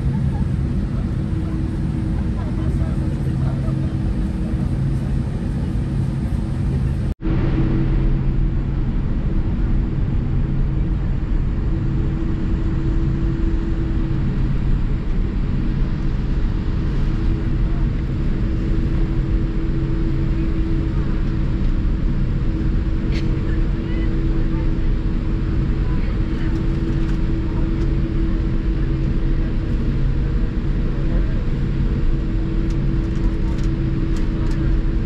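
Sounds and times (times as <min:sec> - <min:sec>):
airliner cabin engine rumble: 0:00.0 - 0:35.0
steady low tones: 0:00.0 - 0:35.0.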